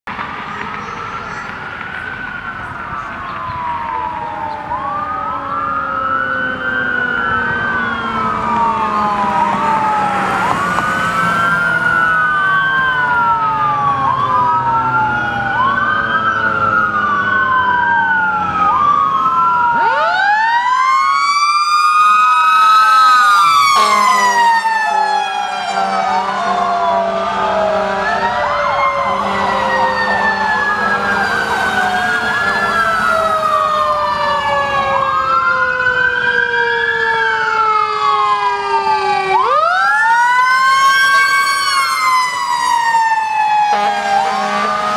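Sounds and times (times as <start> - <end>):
sirens wailing: 0.1 - 44.9
steady lower siren tone: 0.2 - 44.9.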